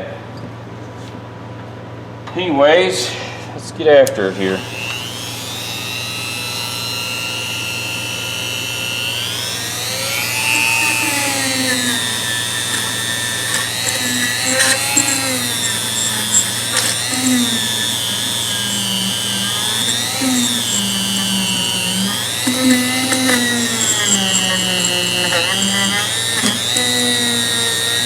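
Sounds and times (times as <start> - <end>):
rotary tool whining on metal: 4.0 - 28.0.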